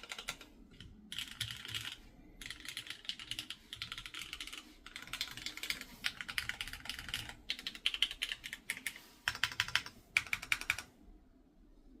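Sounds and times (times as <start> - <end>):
mechanical keyboard typing: 0.0 - 10.9.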